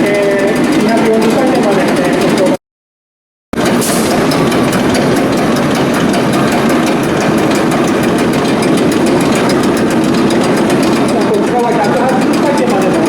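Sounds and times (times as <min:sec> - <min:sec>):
diesel engine clattering: 0:00.0 - 0:02.6, 0:03.6 - 0:13.0.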